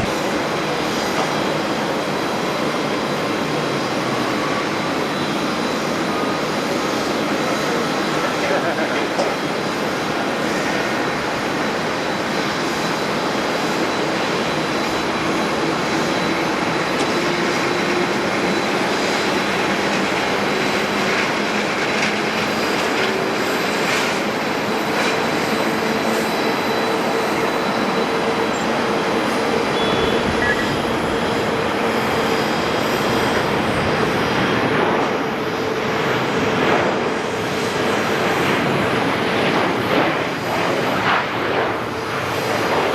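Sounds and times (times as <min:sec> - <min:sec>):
jet engines roaring: 0:00.0 - 0:42.9.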